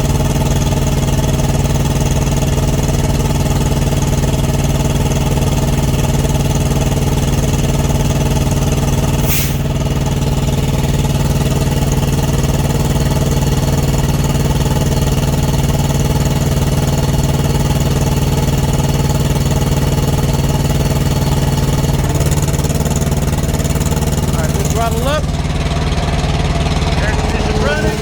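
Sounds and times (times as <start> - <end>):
small diesel engine running: 0.0 - 28.0.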